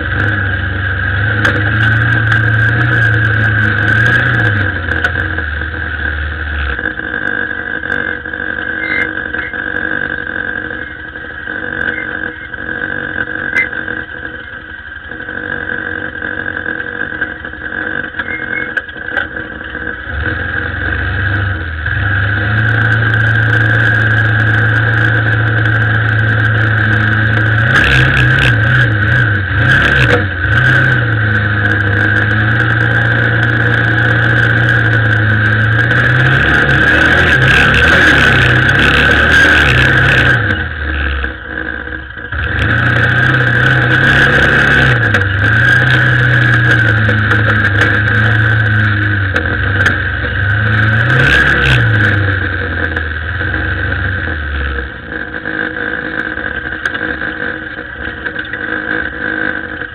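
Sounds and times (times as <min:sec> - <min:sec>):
high motor whine: 0:00.0 - 0:59.9
low drone: 0:00.0 - 0:59.9.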